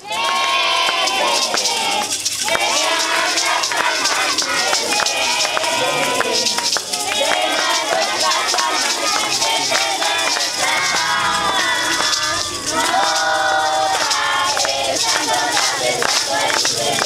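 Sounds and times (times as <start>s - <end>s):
crowd of voices: 0.0s - 17.0s
maracas and rattles shaken: 0.0s - 17.0s
music: 0.0s - 17.0s.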